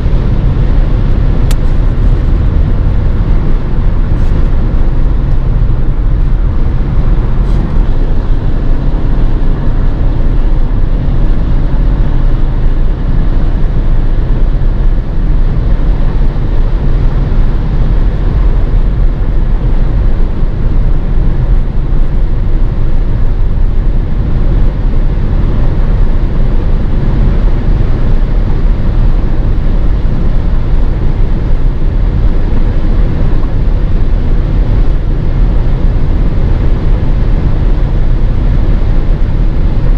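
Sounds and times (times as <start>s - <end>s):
car engine rumble: 0.0s - 39.9s
road and wind noise: 0.0s - 39.9s.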